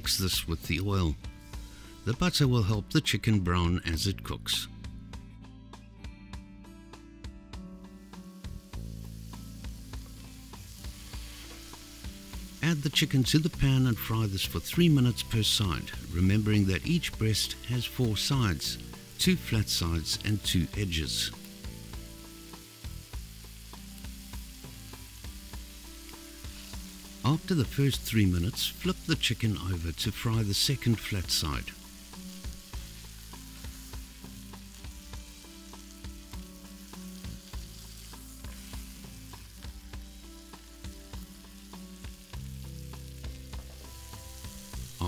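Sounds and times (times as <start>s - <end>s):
meat sizzling in a pan: 0.1s - 2.4s, 7.8s - 45.0s.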